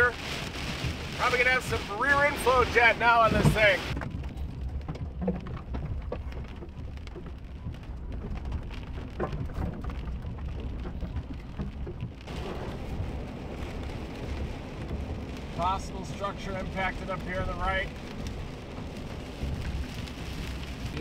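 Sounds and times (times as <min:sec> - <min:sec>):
rain pattering on windshield: 0:00.0 - 0:21.0
truck driving on wet road: 0:00.0 - 0:21.0.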